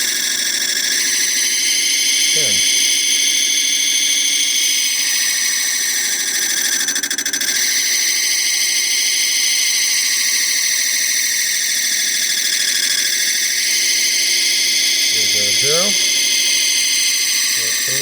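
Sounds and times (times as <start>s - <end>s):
metal lathe whining: 0.0s - 18.0s.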